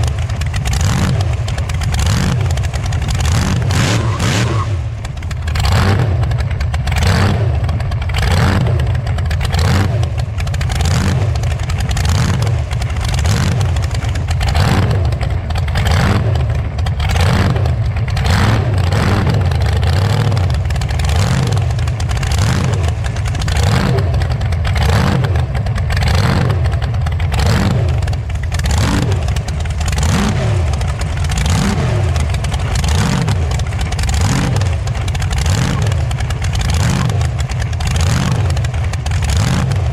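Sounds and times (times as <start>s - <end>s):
loud unmuffled car engine: 0.0s - 39.9s.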